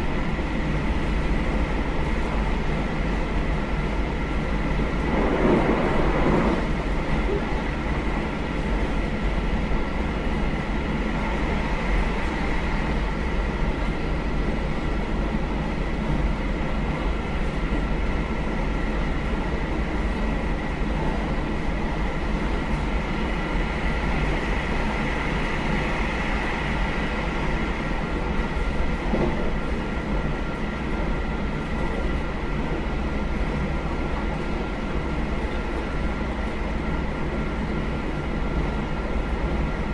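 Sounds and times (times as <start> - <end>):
train engine rumble: 0.0 - 39.9.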